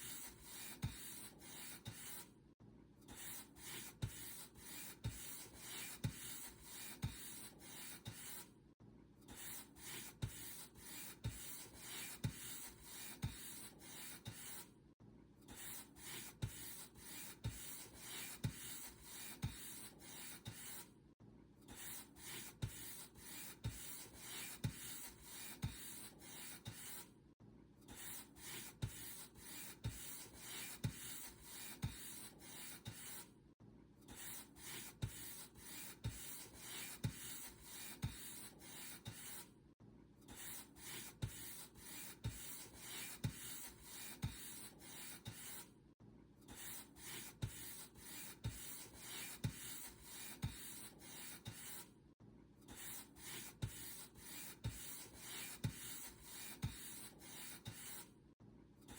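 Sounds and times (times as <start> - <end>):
paint brush stroking a surface: 0.0 - 2.3, 3.2 - 8.5, 9.4 - 14.6, 15.6 - 20.8, 21.8 - 27.1, 28.0 - 33.3, 34.2 - 39.5, 40.3 - 45.7, 46.5 - 51.9, 52.7 - 58.1.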